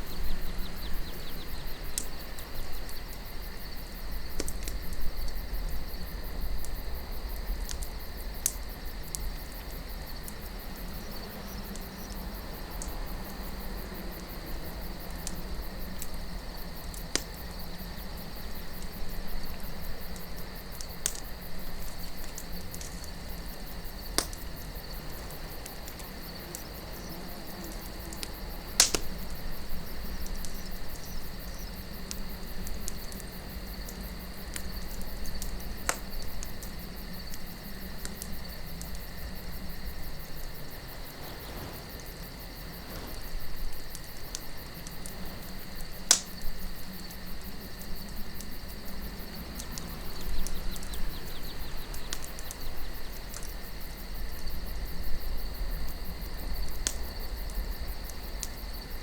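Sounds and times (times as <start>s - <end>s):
campfire crackling and popping: 0.0s - 59.0s
crickets chirping: 0.0s - 59.0s
low wind rumble: 0.0s - 59.0s.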